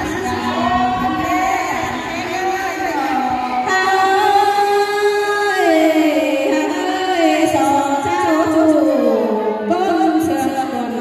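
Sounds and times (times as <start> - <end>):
woman singing over loudspeakers: 0.0 - 11.0.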